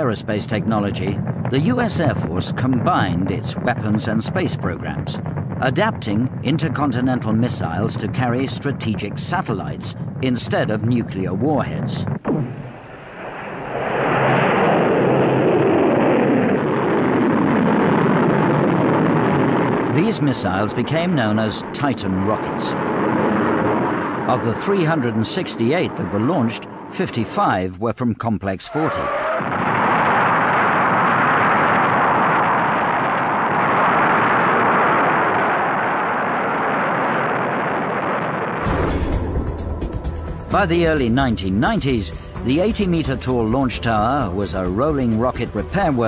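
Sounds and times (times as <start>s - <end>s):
rocket engines rumbling: 0.0s - 46.0s.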